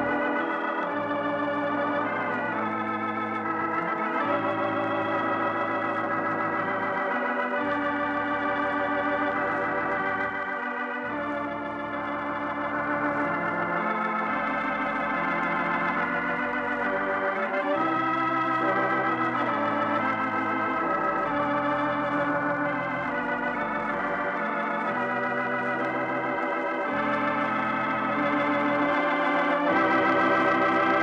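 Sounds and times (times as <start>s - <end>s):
organ playing slow chords: 0.0s - 31.0s.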